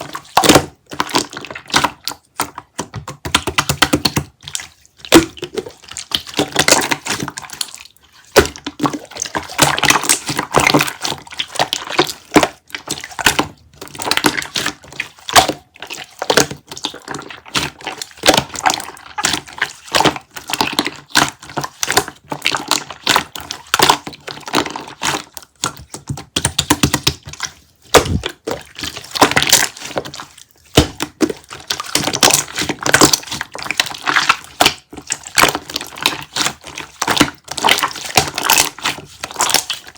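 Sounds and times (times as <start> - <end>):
jelly crackling and popping: 0.0 - 39.9.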